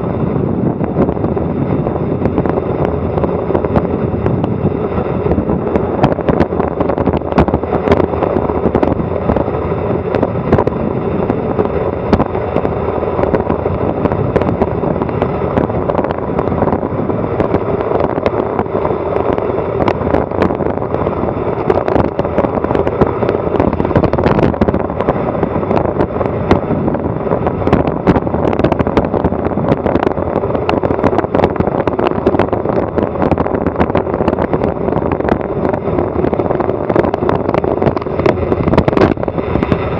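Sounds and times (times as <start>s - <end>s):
wind and road noise: 0.0s - 39.9s
wind buffeting microphone: 0.0s - 39.9s.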